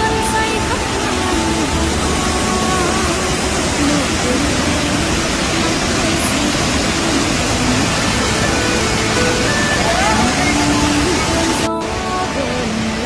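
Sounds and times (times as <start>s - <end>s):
faint voices: 0.0s - 13.0s
river and waterfall rushing: 0.0s - 13.0s.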